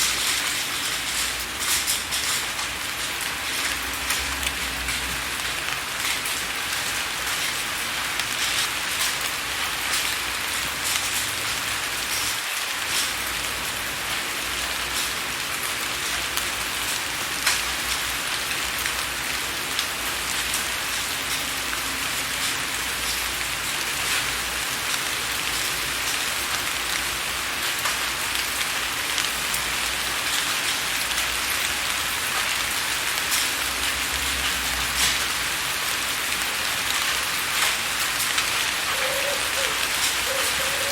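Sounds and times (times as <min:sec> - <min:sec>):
rain on a window: 0:00.0 - 0:40.9
raindrops ticking on glass: 0:00.0 - 0:40.9.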